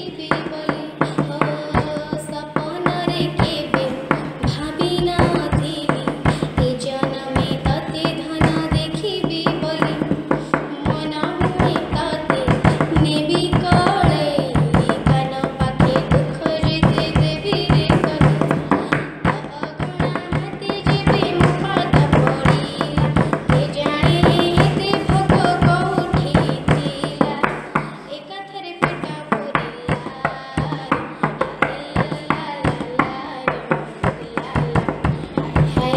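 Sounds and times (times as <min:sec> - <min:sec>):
girl singing devotional song: 0:00.0 - 0:35.9
quick drum strokes: 0:00.0 - 0:35.9.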